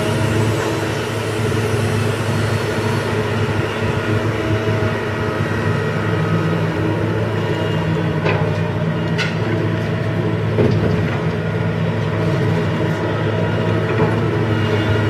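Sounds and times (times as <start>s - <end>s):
excavator diesel engine droning: 0.0s - 15.0s.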